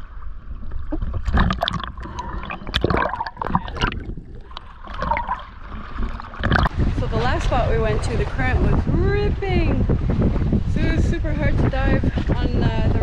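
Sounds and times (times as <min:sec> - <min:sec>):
low rumble: 0:00.0 - 0:13.0
water splashing against camera: 0:00.0 - 0:13.0.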